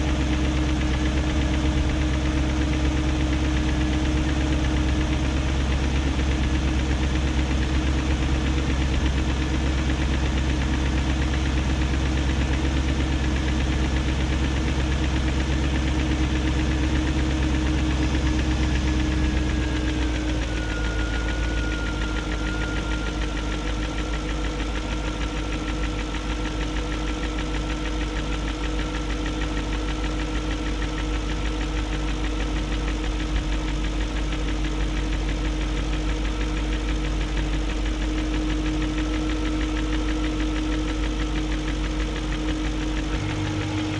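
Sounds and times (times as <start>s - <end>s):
car engine idling: 0.0s - 43.9s
engine ticking: 0.0s - 43.9s.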